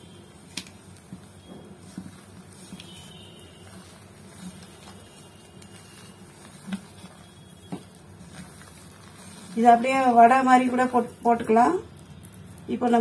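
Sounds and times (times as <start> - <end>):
hand squelching batter: 0.4 - 10.9.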